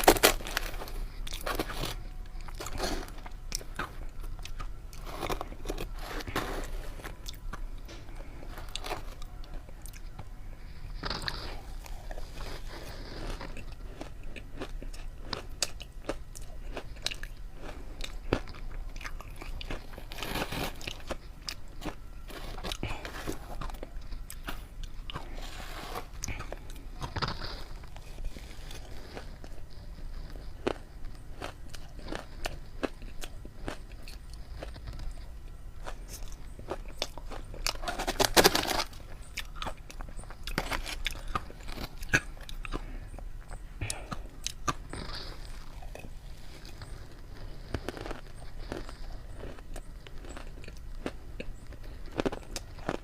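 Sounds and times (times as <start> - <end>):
person chewing ice crunching: 0.0 - 53.0.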